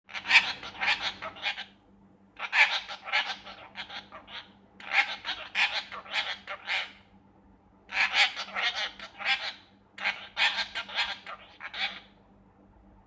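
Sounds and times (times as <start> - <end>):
parrot squawking: 0.1 - 1.8, 2.4 - 7.0, 7.9 - 12.2.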